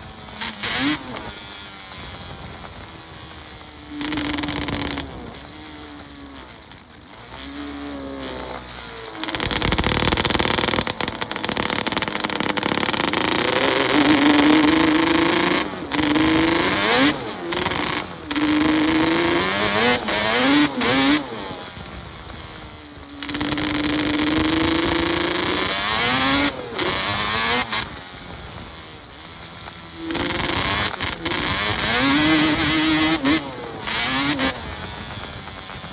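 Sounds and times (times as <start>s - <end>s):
two-stroke engine revving: 0.0s - 35.9s.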